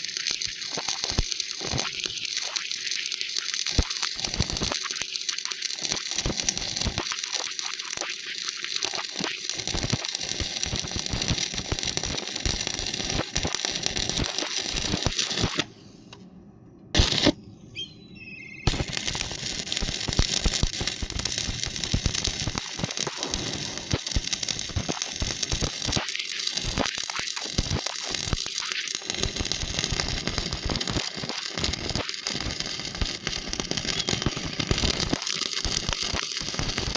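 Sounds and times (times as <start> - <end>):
electric arc welding crackling: 0.0 - 15.7, 17.0 - 17.4, 18.6 - 36.9.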